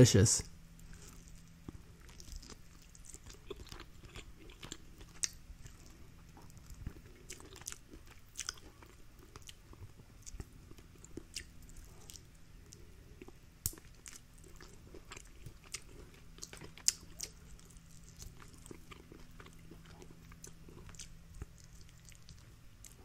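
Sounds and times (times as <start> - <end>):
person chewing chicken: 0.8 - 23.0.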